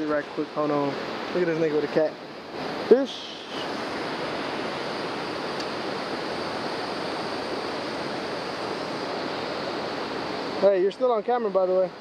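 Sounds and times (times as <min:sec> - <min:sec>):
river water running over rocks: 0:00.0 - 0:12.0.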